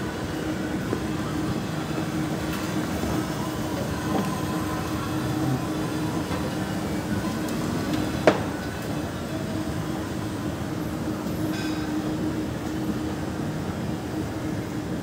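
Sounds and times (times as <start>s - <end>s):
mechanical rumble and hum: 0.0s - 15.0s.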